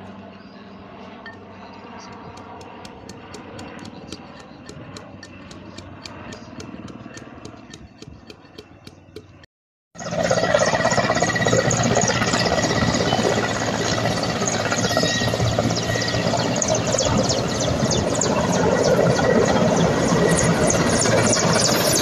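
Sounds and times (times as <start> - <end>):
helicopter high whine: 0.0 - 22.0
helicopter rotor beating: 0.0 - 22.0.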